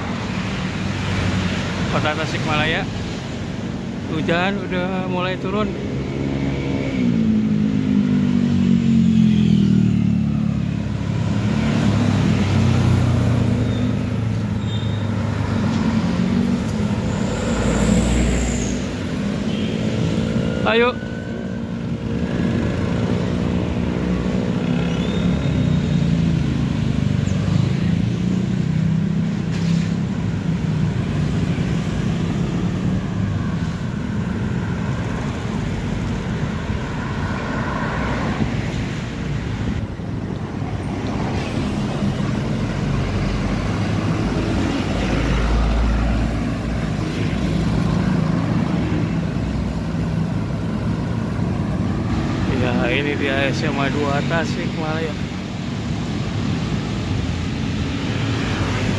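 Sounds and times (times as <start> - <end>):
car and motorcycle engines passing: 0.0 - 58.9
city traffic noise: 0.0 - 58.9.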